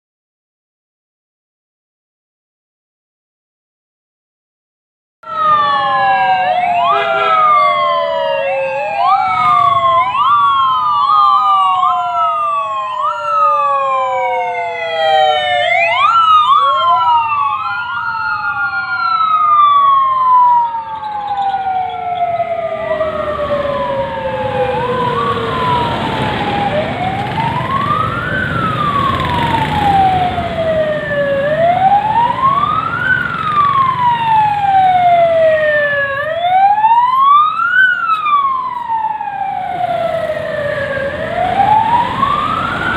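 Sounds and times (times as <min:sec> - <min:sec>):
police sirens wailing: 0:05.2 - 0:42.9
vehicle engine and tyre noise: 0:05.4 - 0:42.9.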